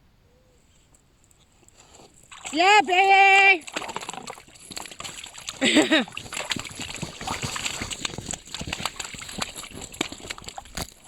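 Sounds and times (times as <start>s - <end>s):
fish flopping in slushy water: 1.8s - 11.0s.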